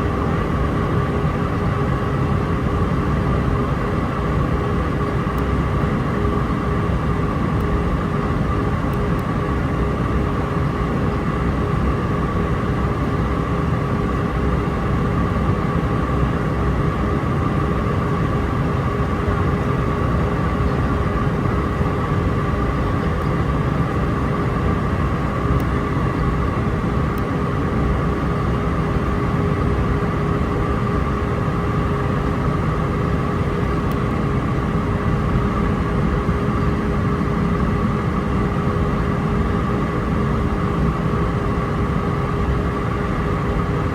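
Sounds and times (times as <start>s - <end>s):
airliner cabin rumble in flight: 0.0s - 43.9s.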